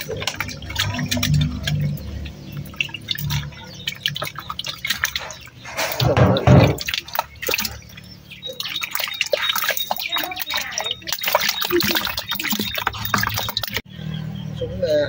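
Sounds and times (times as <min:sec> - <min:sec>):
hands splashing water: 0:00.0 - 0:13.8
water dripping into a bucket: 0:00.0 - 0:13.9.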